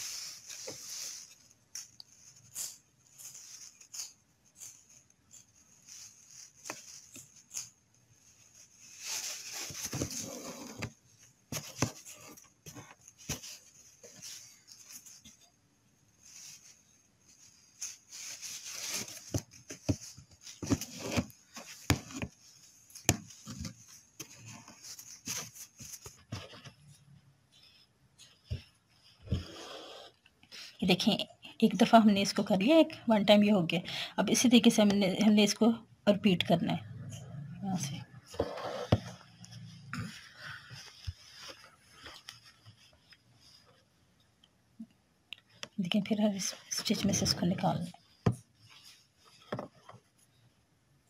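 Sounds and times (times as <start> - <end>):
thread rustling through cloth: 0.0 - 31.1, 37.3 - 50.5.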